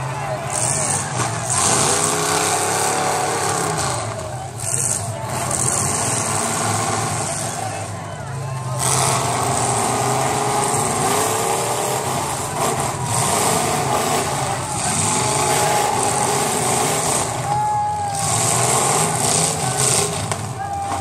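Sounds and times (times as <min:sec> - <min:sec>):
car engines revving: 0:00.0 - 0:21.0
crowd voices: 0:00.0 - 0:21.0.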